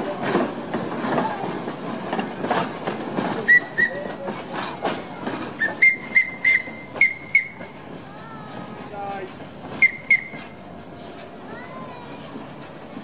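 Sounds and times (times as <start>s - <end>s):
train wheels clattering over rail joints: 0.0s - 13.0s.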